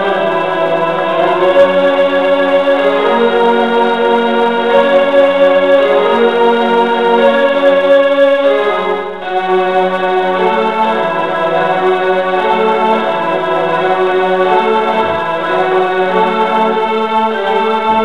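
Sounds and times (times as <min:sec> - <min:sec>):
electronic keyboard organ chords: 0:00.0 - 0:18.0.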